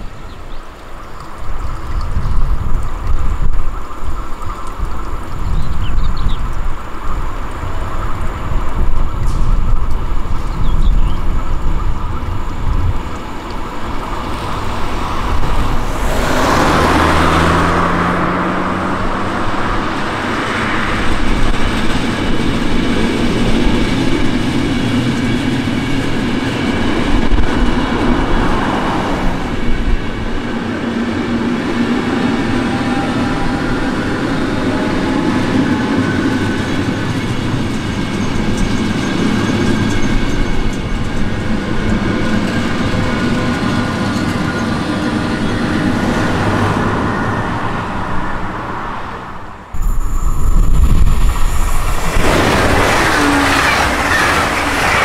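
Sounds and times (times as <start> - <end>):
wheels rumbling on rails: 0.0 - 55.0
train rushing past: 6.8 - 55.0.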